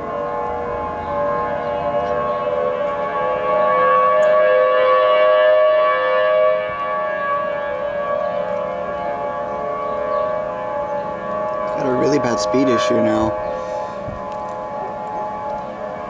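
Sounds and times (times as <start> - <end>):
tornado siren steady tone: 0.0 - 16.0.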